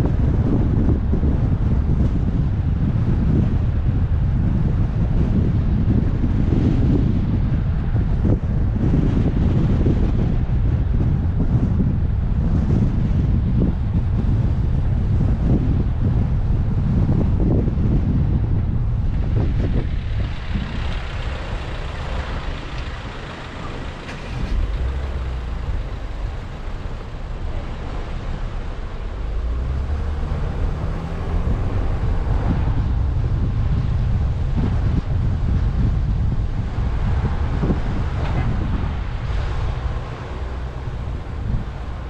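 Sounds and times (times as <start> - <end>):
car tyre and engine noise: 0.0 - 42.0
wind buffeting microphone: 0.0 - 42.0.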